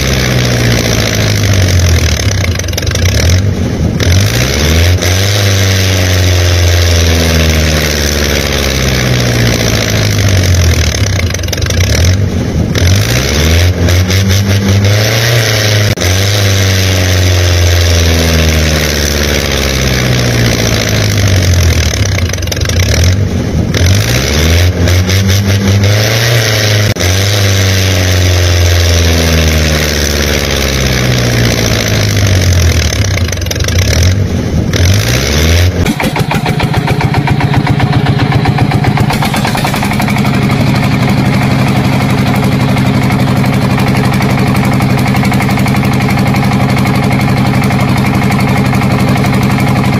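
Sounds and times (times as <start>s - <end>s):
engine revving: 0.0s - 49.9s.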